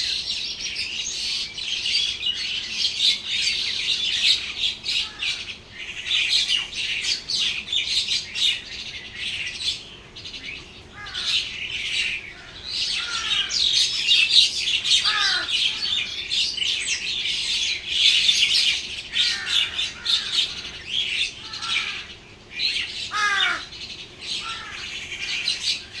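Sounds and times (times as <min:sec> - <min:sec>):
downward sweeping bird calls: 0:00.0 - 0:26.0
small birds chirping: 0:00.0 - 0:26.0.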